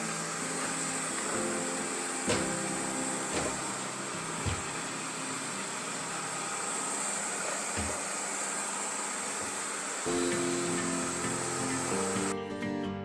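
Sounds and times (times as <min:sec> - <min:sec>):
robot vacuum hiss and whine: 0:00.0 - 0:12.3.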